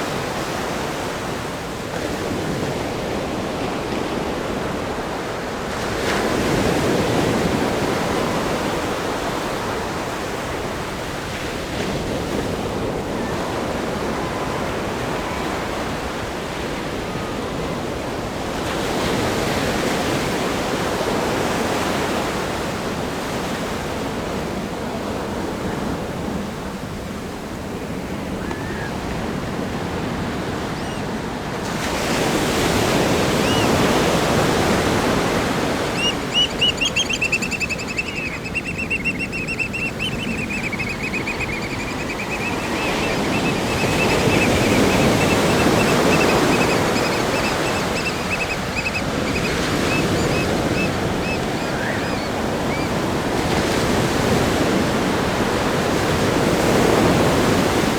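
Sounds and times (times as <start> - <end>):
ocean surf breaking on beach: 0.0 - 57.9.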